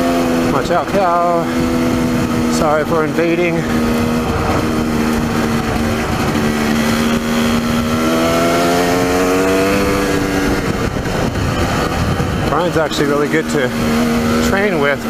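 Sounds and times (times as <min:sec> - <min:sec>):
dirt bike engine revving: 0:00.0 - 0:15.0
wind across microphone: 0:00.0 - 0:15.0.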